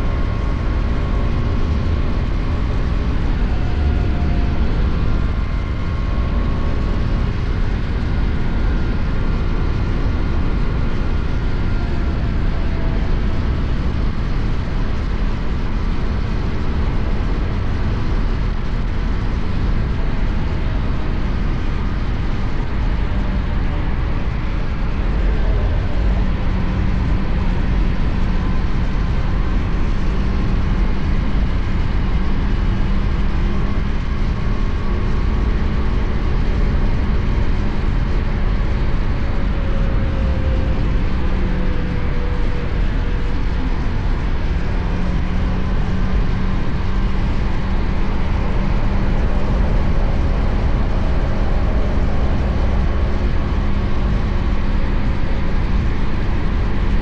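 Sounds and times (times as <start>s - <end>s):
low engine hum: 0.0s - 57.0s
wind and road noise: 0.0s - 57.0s.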